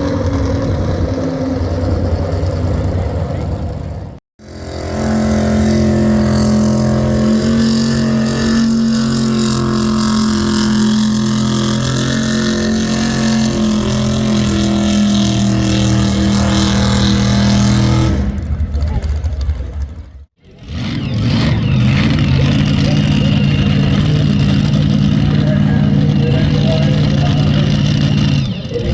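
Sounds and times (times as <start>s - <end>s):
tractor engine at high revs: 0.0s - 28.9s.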